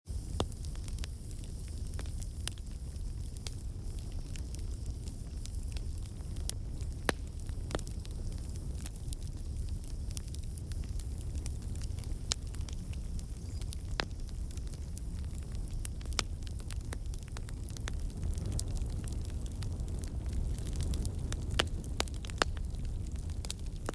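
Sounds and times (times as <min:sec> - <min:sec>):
fire crackling and popping: 0:00.1 - 0:23.9.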